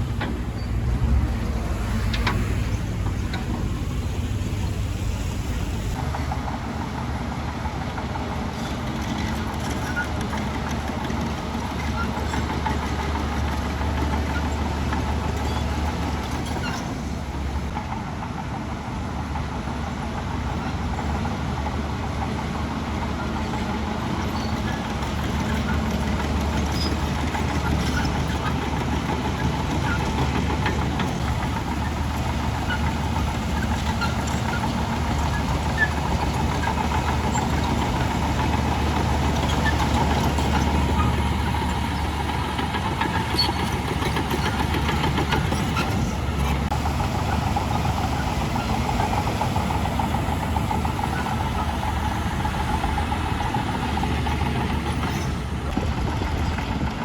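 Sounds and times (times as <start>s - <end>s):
heavy diesel engine drone: 0.0s - 57.0s.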